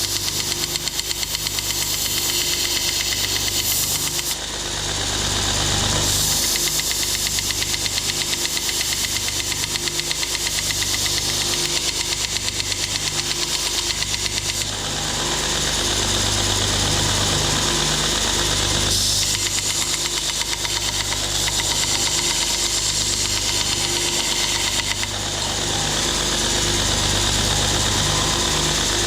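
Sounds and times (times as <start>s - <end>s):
belt grinder humming and ticking: 0.0s - 29.0s.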